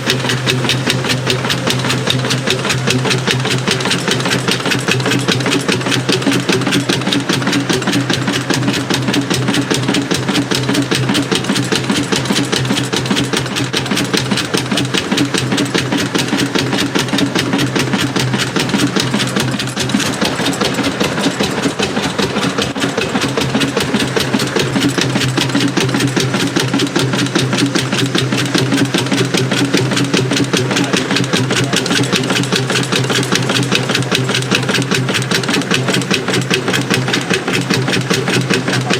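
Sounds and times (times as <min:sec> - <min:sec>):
steam traction engine running: 0:00.0 - 0:38.9.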